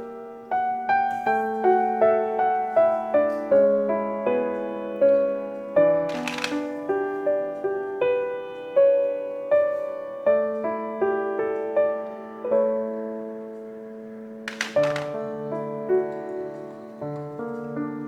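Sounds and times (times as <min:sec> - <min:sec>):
gentle solo piano music: 0:00.0 - 0:18.0.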